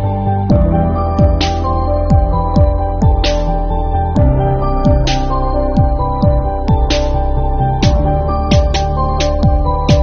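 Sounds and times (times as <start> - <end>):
background music with kick drum: 0.0 - 10.0.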